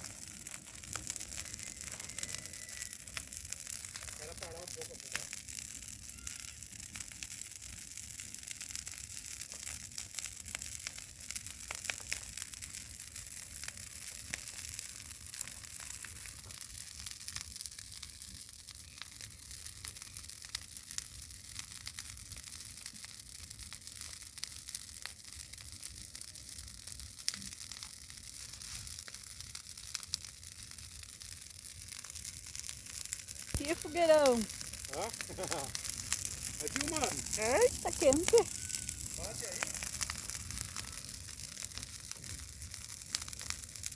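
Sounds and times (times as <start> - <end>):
bonfire crackling and popping: 0.0 - 43.9.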